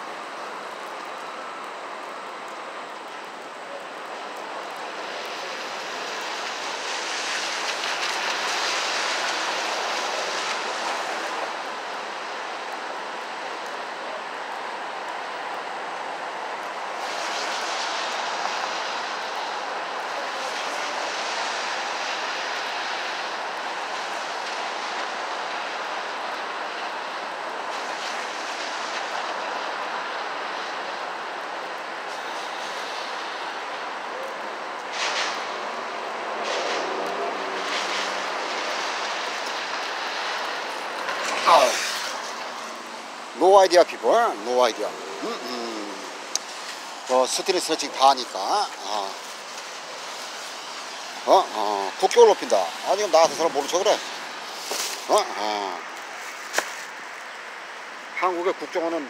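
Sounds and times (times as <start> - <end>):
passing vehicles hissing: 0.0 - 59.0
rain and wet-road traffic: 0.0 - 59.0.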